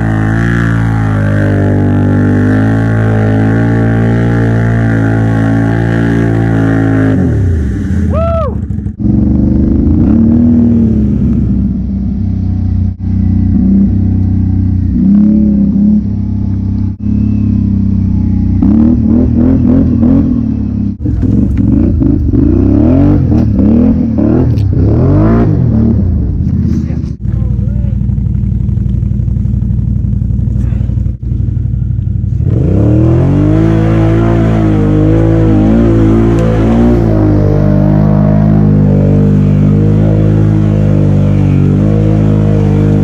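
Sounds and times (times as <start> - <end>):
atv engine revving: 0.0 - 43.0
deep droning tone: 0.0 - 43.0.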